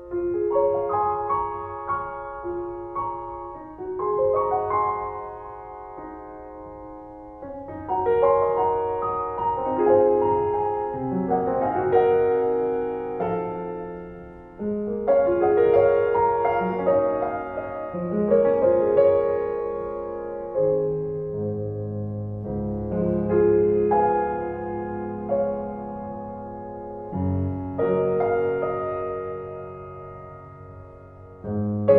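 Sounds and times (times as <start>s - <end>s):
slow piano music: 0.0s - 31.9s.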